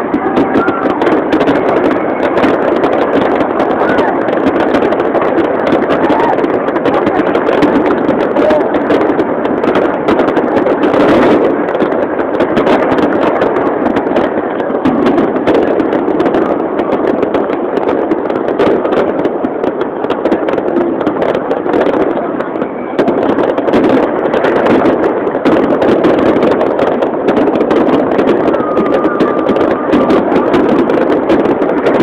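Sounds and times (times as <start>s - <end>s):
fireworks popping and crackling: 0.0s - 32.0s
large crowd talking: 0.0s - 32.0s.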